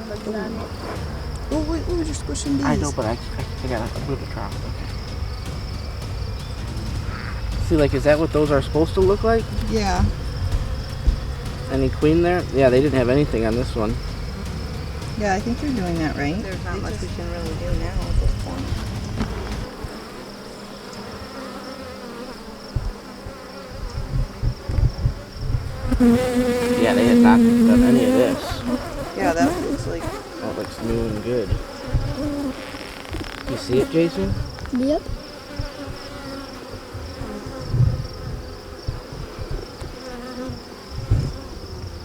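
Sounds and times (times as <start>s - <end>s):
low thumps: 0.0s - 20.0s, 22.6s - 42.0s
honeybees buzzing: 0.0s - 42.0s.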